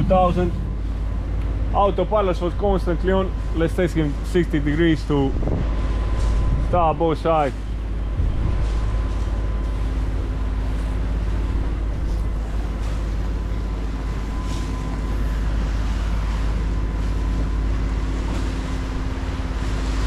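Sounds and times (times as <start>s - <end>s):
diesel engine low drone: 0.0s - 20.0s.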